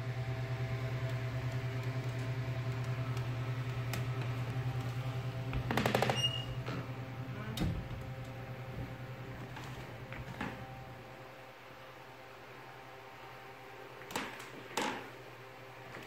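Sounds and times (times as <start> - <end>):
appliance motor hum: 0.0 - 16.0.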